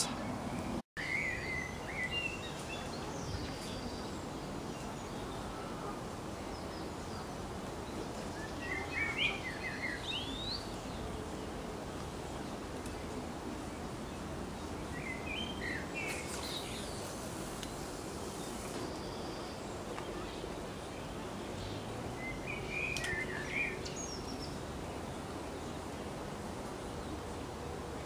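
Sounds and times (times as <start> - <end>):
small birds singing: 0.0 - 28.0
steady background hiss: 0.0 - 28.0.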